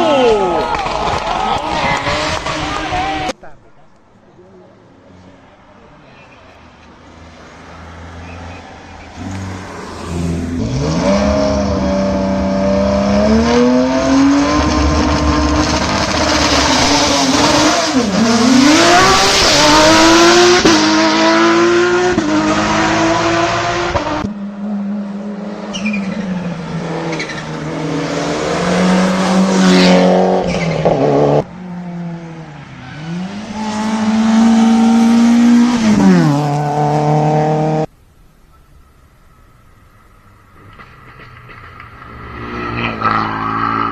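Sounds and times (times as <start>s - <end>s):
race car engines revving: 0.0s - 3.8s, 4.7s - 37.9s, 40.3s - 43.9s.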